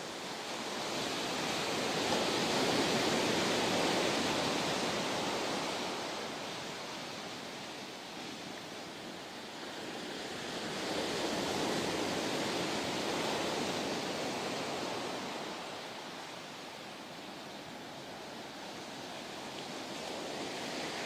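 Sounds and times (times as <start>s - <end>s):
ocean waves surging: 0.1s - 21.0s.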